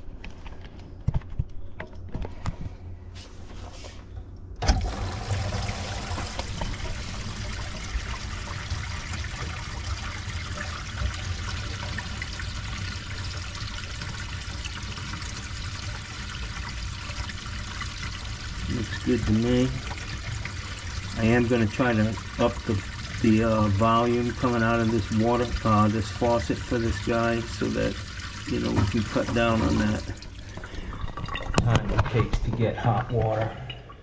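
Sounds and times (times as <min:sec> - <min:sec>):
water draining from sink: 0:04.6 - 0:34.0.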